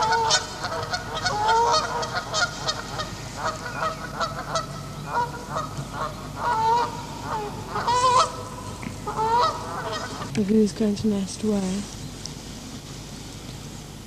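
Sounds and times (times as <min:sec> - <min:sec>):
geese honking: 0:00.0 - 0:11.8.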